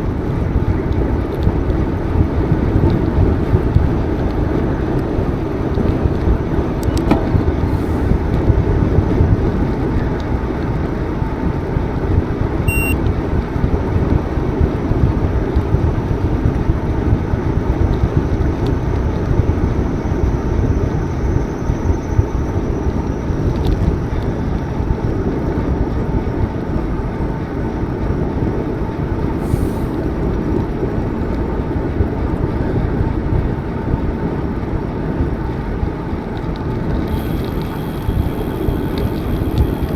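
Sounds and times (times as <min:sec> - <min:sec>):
bicycle tyres rolling: 0:00.0 - 0:39.9.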